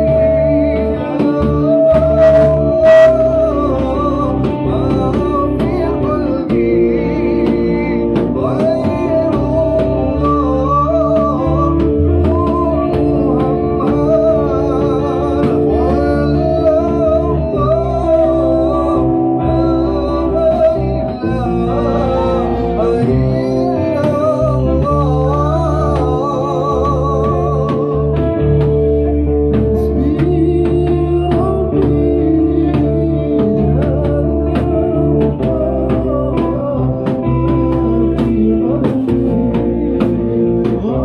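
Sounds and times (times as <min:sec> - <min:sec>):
person singing: 0:00.0 - 0:41.0
rock band playing: 0:00.0 - 0:41.0.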